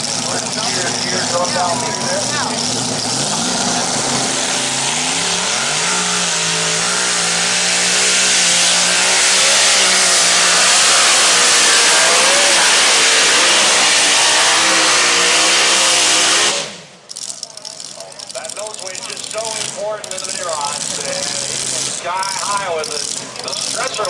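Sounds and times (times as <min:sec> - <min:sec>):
tractor engine revving at full throttle: 0:00.0 - 0:24.0.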